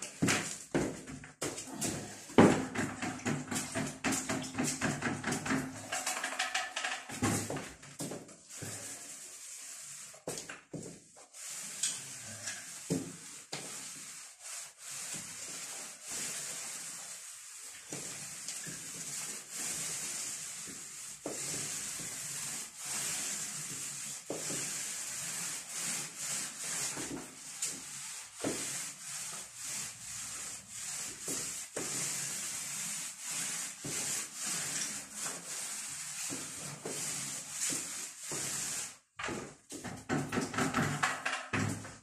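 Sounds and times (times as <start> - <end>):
paint roller rasping on wall: 0.0 - 42.0.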